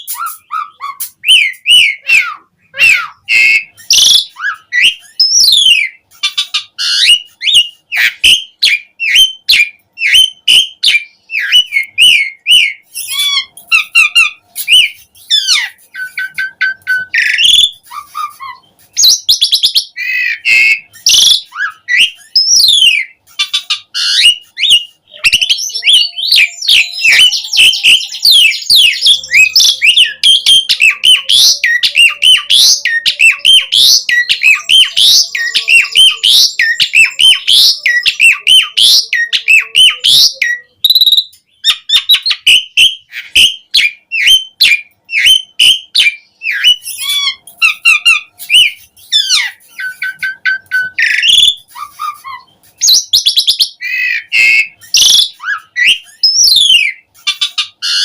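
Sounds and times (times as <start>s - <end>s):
starling singing: 0.0s - 58.0s.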